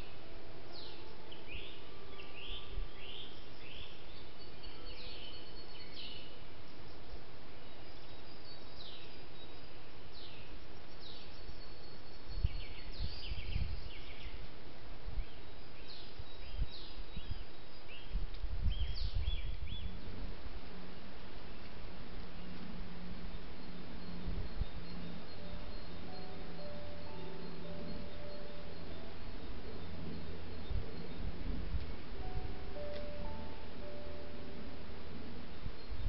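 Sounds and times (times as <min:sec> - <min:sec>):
microphone hiss: 0:00.0 - 0:36.0
small birds chirping: 0:00.0 - 0:36.0.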